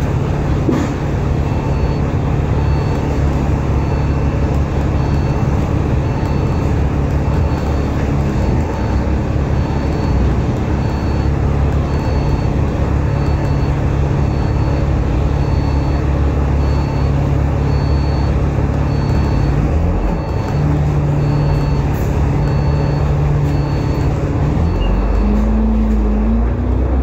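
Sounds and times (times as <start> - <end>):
bus diesel engine drone: 0.0 - 27.0.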